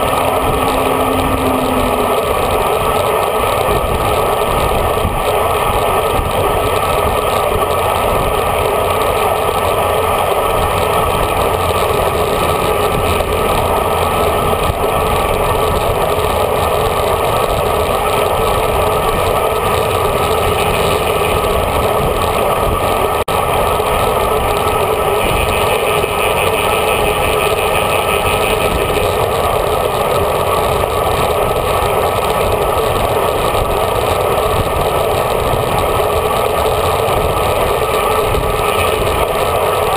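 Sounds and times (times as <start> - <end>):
muffled wind and road roar: 0.0 - 39.9.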